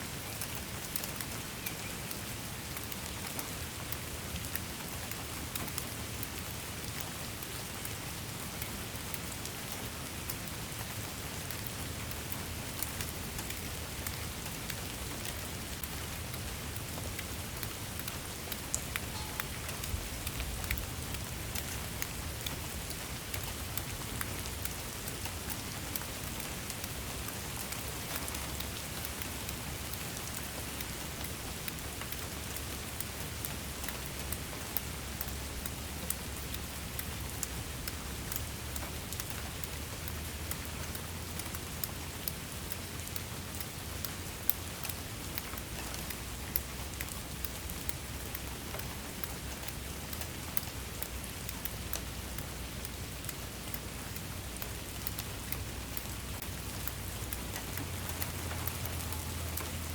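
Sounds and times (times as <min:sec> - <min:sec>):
raindrops ticking on a surface: 0:00.0 - 0:59.9
steady rain falling: 0:00.0 - 0:59.9.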